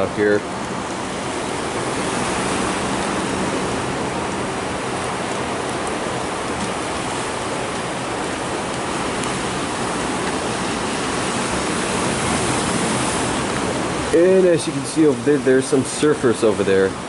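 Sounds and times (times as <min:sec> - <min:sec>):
rain rushing: 0:00.0 - 0:17.0
surf breaking on rocks: 0:00.0 - 0:17.0.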